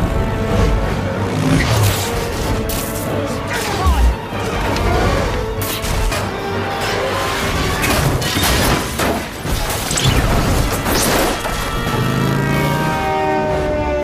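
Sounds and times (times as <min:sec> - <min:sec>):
orchestral music: 0:00.0 - 0:14.0.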